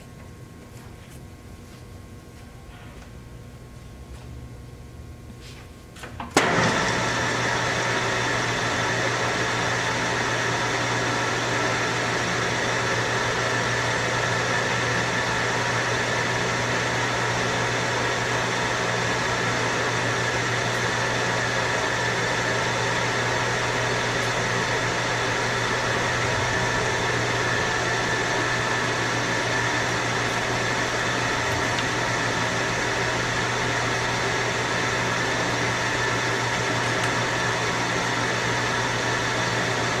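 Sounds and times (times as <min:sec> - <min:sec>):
lathe humming: 0:06.4 - 0:40.0.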